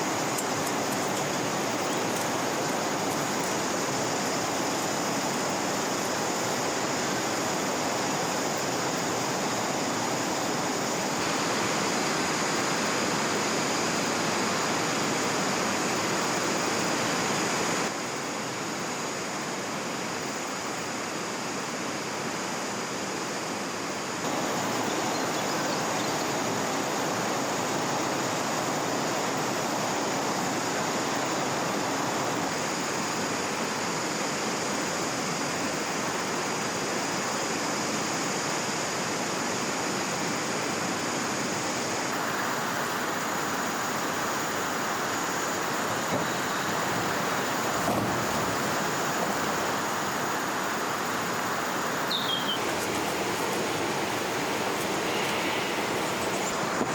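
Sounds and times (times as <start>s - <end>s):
river water rushing: 0.0s - 17.9s, 24.2s - 56.9s.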